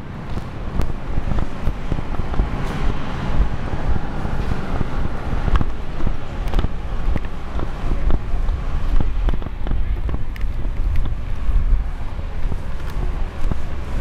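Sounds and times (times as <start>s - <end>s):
footsteps on pavement: 0.0s - 14.0s
wind rumbling on microphone: 0.0s - 14.0s.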